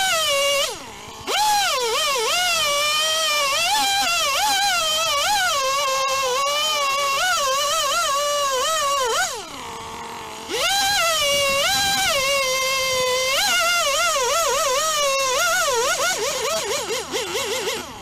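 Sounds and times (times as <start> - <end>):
chainsaw cutting through log: 0.0 - 18.0.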